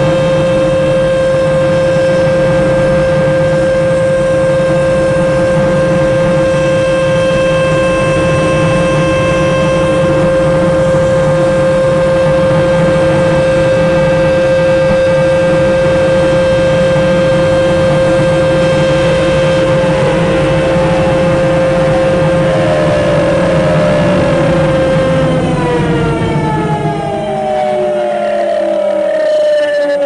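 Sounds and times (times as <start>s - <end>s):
car wash dryer blowers whining: 0.0s - 30.0s.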